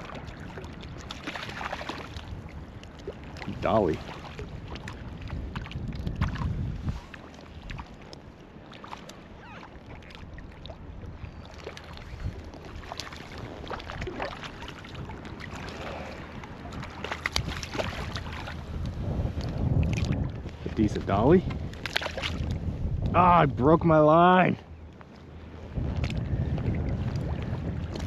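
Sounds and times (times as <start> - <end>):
small waves lapping: 0.0 - 22.7.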